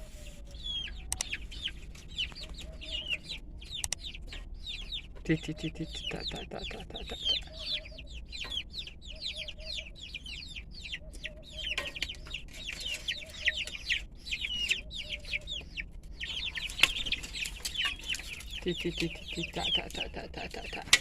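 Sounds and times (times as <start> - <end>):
chicken clucking: 0.0 - 21.0
chicks cheeping: 0.0 - 21.0.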